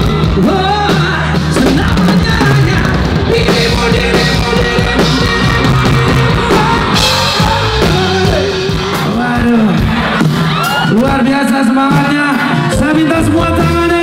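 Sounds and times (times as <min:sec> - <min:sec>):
man singing: 0:00.0 - 0:09.7, 0:11.0 - 0:14.0
rock band playing loudly: 0:00.0 - 0:14.0.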